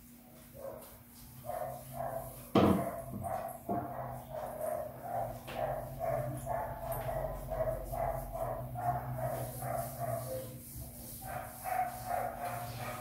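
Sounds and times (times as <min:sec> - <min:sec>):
dog barking: 0:00.6 - 0:10.6, 0:11.2 - 0:13.0.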